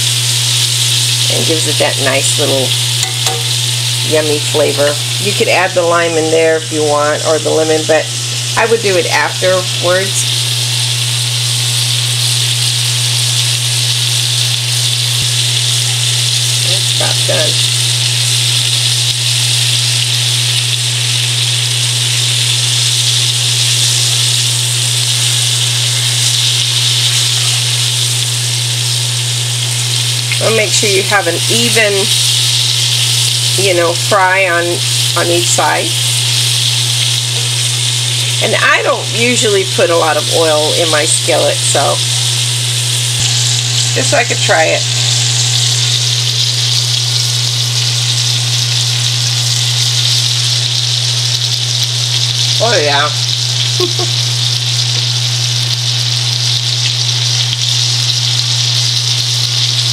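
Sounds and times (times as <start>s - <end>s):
fish sizzling in oil: 0.0s - 59.9s
low hum: 0.0s - 59.9s.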